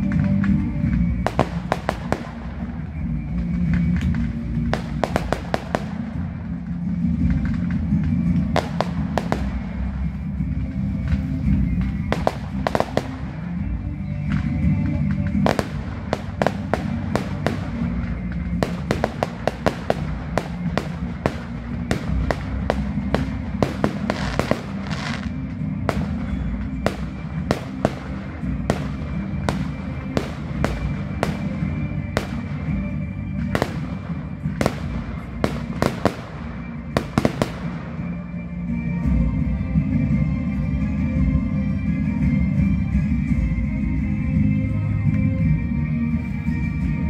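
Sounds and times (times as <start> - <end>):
fireworks bangs and crackles: 0.0 - 43.5
music: 0.0 - 47.0.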